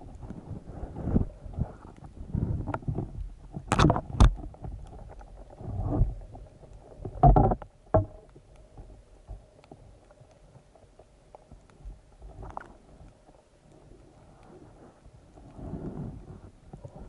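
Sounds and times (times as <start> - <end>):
underwater rumble: 0.0 - 17.0.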